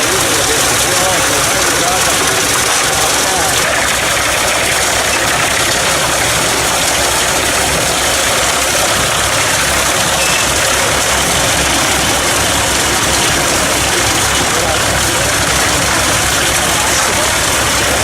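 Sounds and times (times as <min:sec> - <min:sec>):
wood chipper running: 0:00.0 - 0:18.0.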